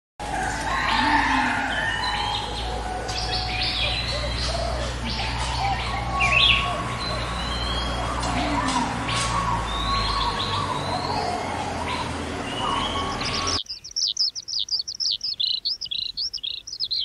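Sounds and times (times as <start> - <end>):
small birds chirping: 0.9 - 17.0.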